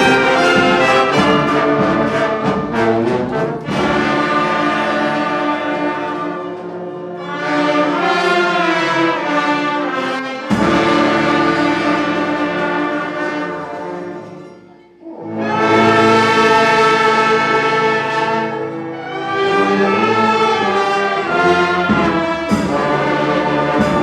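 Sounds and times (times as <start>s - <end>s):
instrumental ensemble playing chords: 0.0s - 24.0s.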